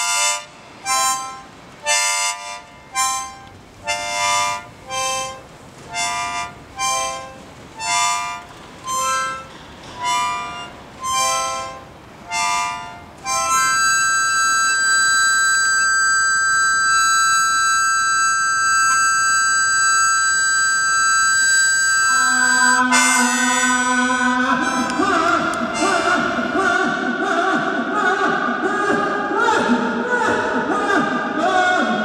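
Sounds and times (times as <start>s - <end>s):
harmonica chords: 0.0s - 26.9s.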